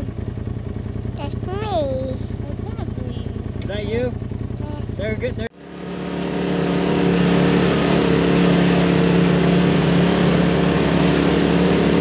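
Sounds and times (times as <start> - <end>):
utility vehicle engine running: 0.0 - 12.0.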